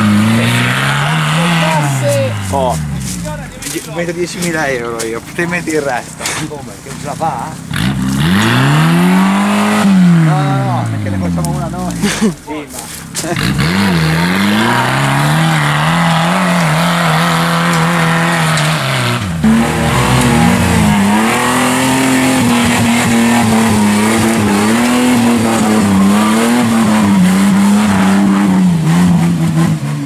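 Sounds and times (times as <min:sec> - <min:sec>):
off-road engine at high revs: 0:00.0 - 0:30.0.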